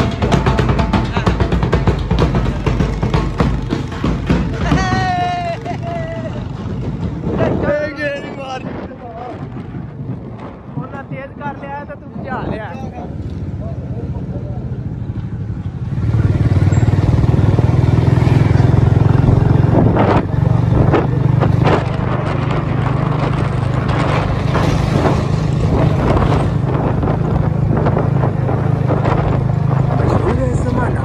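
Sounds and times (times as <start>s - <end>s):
motorcycle engine drone: 0.0s - 11.5s, 12.3s - 31.0s.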